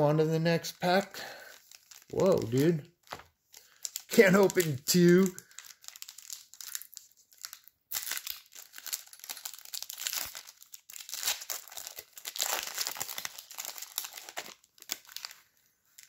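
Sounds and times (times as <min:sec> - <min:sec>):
card wrapper crinkling: 0:01.0 - 0:16.0.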